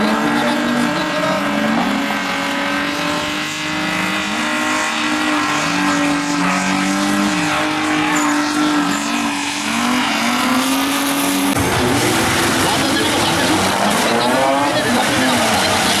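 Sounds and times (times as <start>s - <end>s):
car engine held at high revs: 0.0s - 16.0s
car engine revving: 0.0s - 16.0s.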